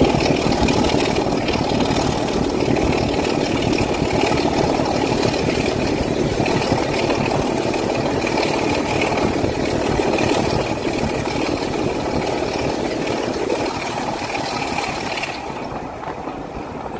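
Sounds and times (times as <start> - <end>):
diesel locomotive engine running: 0.0 - 16.9.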